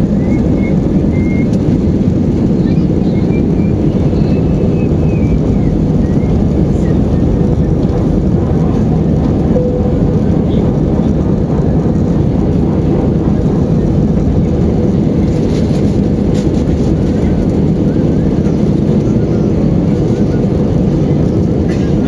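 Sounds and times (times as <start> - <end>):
jet airliner taking off: 0.0 - 22.0.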